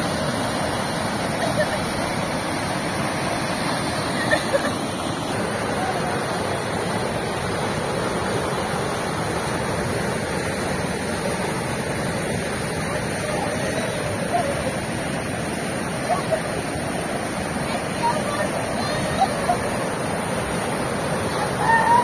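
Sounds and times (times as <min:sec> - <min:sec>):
floodwater rushing through culvert: 0:00.0 - 0:22.0.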